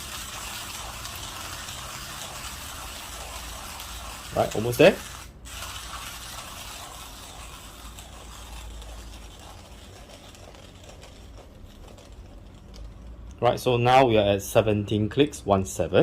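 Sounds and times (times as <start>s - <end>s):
hand grinder grinding coffee beans: 0.0s - 13.4s.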